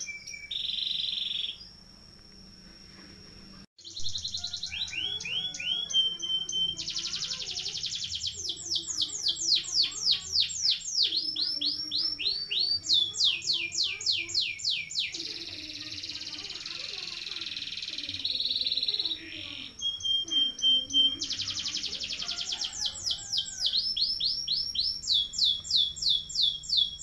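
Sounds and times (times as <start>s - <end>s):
canary singing trills: 0.0s - 1.8s, 3.8s - 27.0s.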